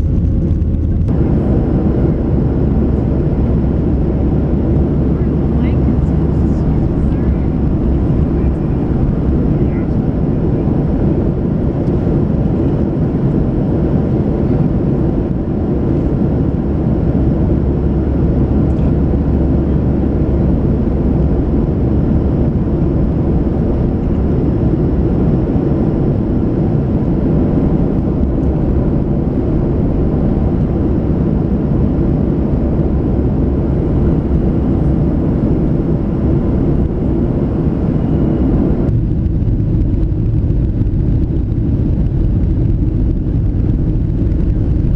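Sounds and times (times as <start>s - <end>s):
airflow over fuselage: 0.0s - 44.9s
jet engine cabin roar: 0.0s - 44.9s.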